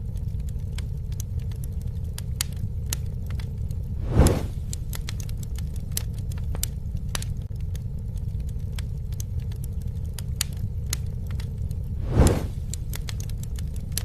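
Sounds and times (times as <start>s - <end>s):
low rumble of flames: 0.0s - 14.0s
wood crackling and popping: 0.0s - 14.0s.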